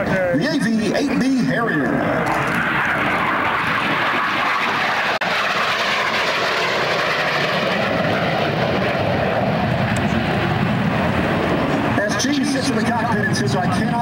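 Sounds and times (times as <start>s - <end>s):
deep jet rumble: 0.0s - 14.0s
jet aircraft passing: 0.0s - 14.0s.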